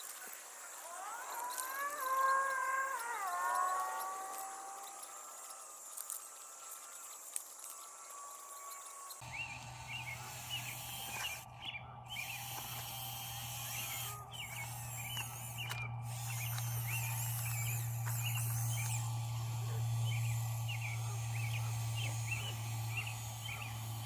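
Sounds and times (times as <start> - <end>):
small electric motor humming: 0.0 - 24.0.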